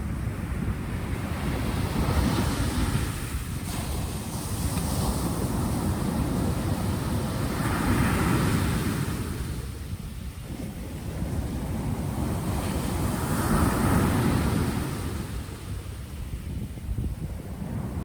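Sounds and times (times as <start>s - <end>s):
ocean waves washing in: 0.0s - 18.0s.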